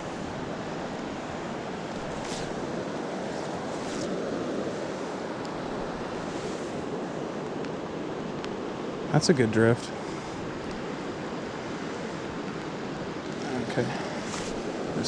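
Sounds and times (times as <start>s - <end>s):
fast river rushing: 0.0s - 15.0s.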